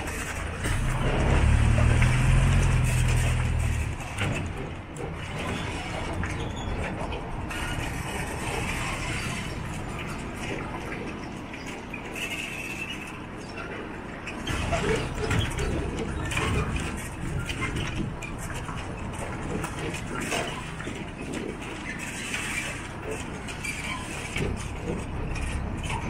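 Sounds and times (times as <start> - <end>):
low engine drone: 0.0 - 26.0
rushing rumble of rolling train: 0.0 - 26.0.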